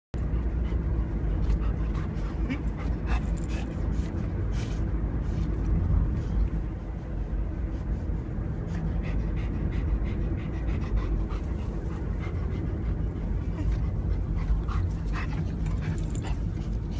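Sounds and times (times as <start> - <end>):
dog panting: 0.2 - 16.9.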